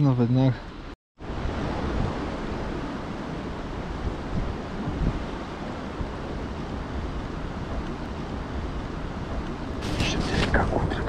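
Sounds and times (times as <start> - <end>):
wind buffeting microphone: 1.2 - 11.0.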